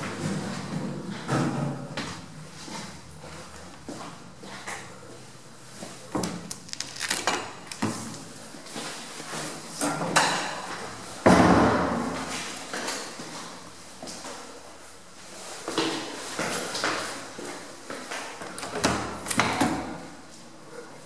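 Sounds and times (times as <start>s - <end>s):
footsteps in a stairwell: 0.0s - 6.4s, 7.8s - 11.2s, 11.8s - 21.0s.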